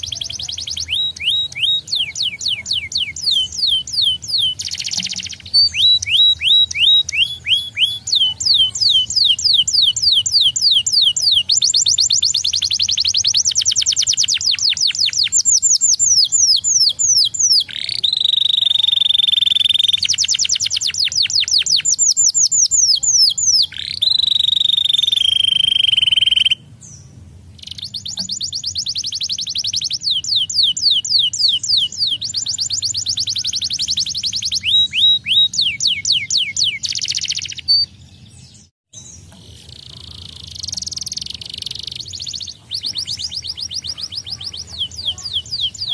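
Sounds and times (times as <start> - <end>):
canary singing: 0.0 - 45.9.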